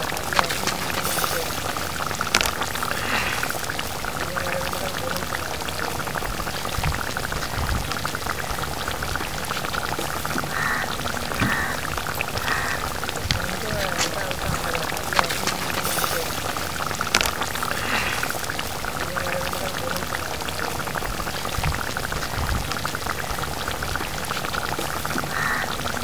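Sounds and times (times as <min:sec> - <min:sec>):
curry simmering with bubbles popping: 0:00.0 - 0:26.0.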